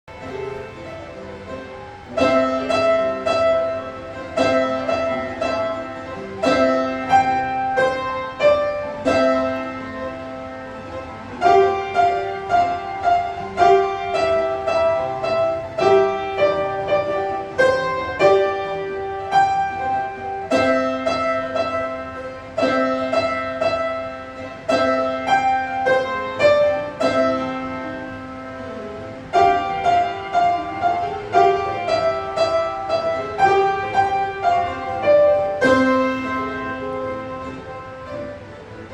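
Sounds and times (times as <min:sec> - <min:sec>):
piano playing simple melody: 0:00.0 - 0:38.9.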